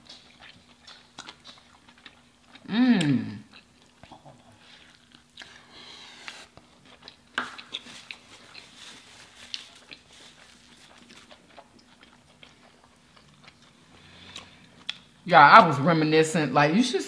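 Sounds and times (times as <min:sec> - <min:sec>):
wet chewing with mouth clicks: 0:00.0 - 0:05.6, 0:06.5 - 0:15.1.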